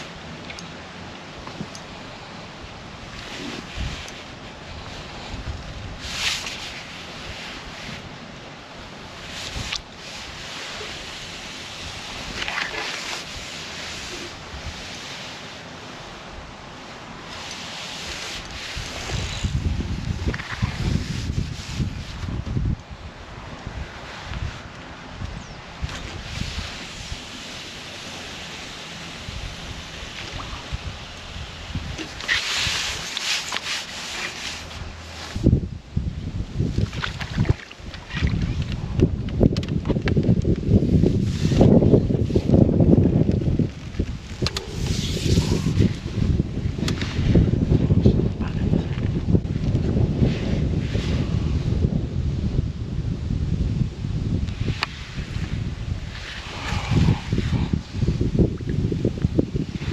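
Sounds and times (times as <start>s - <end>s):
wind buffeting microphone: 0.0s - 15.1s, 16.0s - 33.2s, 34.0s - 59.9s.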